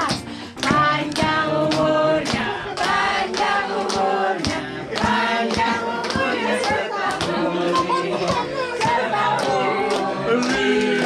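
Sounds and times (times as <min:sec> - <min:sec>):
group singing a birthday song: 0:00.0 - 0:11.0
hand-clapping: 0:00.0 - 0:11.0.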